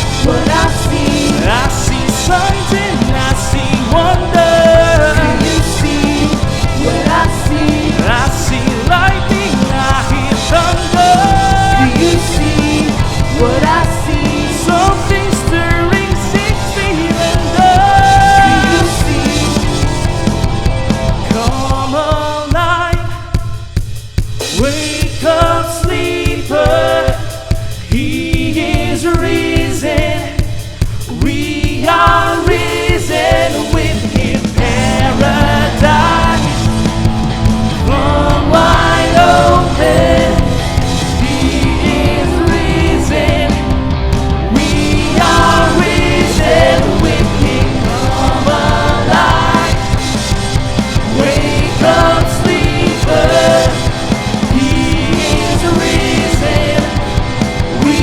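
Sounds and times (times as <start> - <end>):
others singing along: 0.0 - 23.3, 24.4 - 58.0
bass and drums: 0.0 - 58.0
lead vocals singing: 0.0 - 58.0.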